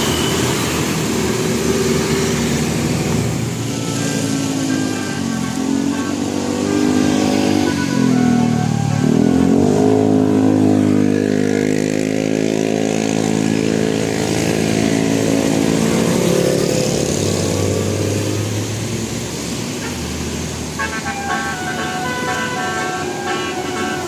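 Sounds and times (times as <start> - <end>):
bus engine accelerating: 0.0 - 24.0.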